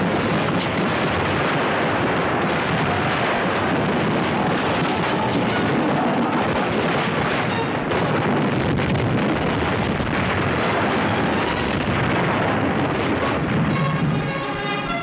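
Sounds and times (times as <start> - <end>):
explosions and gunfire: 0.0 - 15.0
sharp crack: 0.0 - 15.0.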